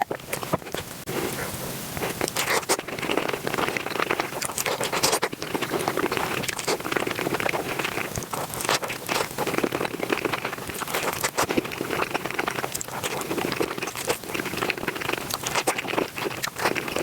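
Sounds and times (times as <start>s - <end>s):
rapid chewing and crunching: 0.0s - 17.0s.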